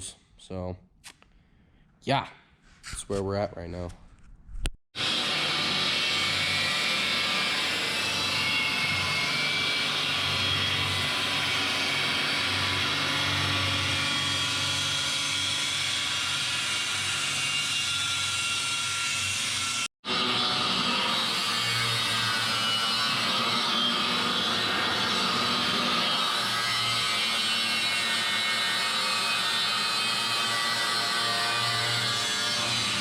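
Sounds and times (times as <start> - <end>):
power cutting tool cutting steel: 5.0 - 33.0.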